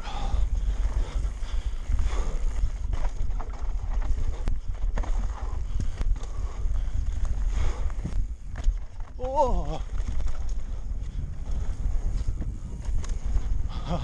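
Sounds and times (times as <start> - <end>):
wind rumble on microphone: 0.0 - 14.0
bike rattling and knocking: 0.1 - 14.0.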